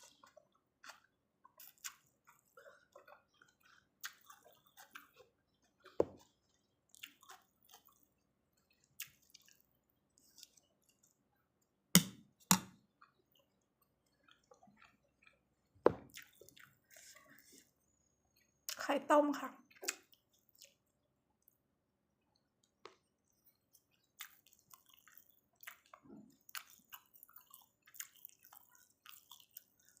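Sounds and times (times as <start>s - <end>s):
wet chewing and mouth sounds: 0.0s - 18.9s, 19.6s - 30.0s.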